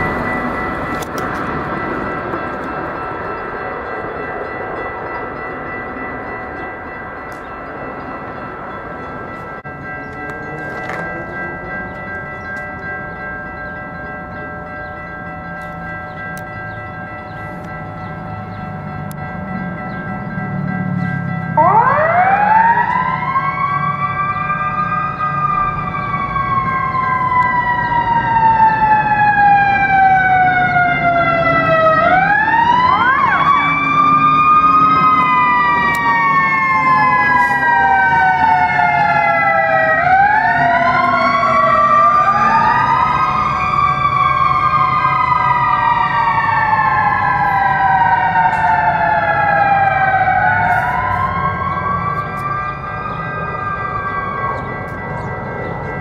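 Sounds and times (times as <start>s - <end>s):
emergency vehicle siren wailing: 0.0s - 56.0s
railroad crossing bells ringing: 0.0s - 56.0s.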